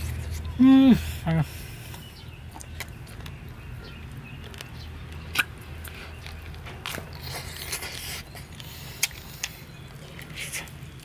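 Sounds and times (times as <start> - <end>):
man chewing with wet smacks: 0.0 - 11.0
sharp chewing crunches: 1.9 - 11.0.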